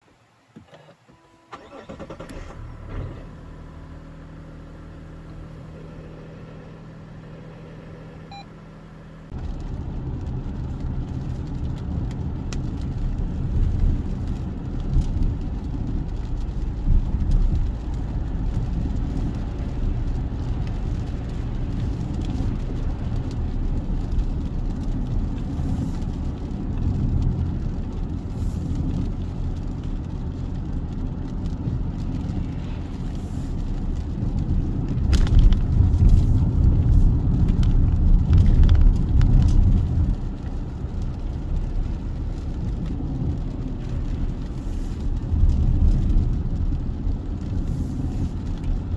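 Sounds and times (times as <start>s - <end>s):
rough low engine rumble: 0.0s - 48.9s
diesel engine humming: 1.5s - 48.9s.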